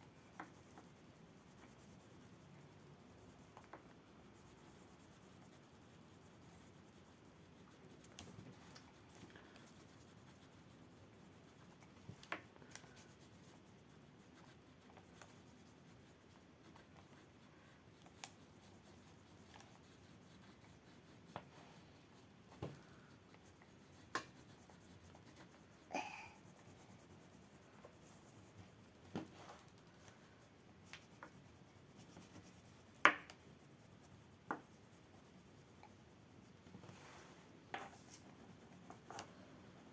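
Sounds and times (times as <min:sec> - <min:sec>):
pastel scratching on paper: 0:00.1 - 0:39.9.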